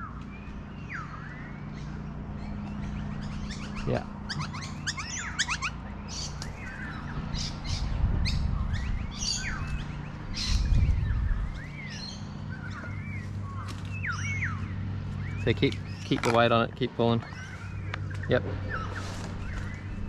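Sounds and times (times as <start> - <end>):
birds chirping: 0.0 - 20.0
low rumbles: 0.0 - 20.0
steady low hum: 0.0 - 20.0.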